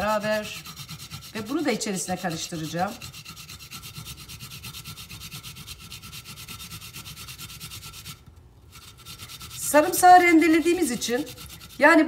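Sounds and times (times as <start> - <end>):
garlic rasping on grater: 0.0 - 12.0.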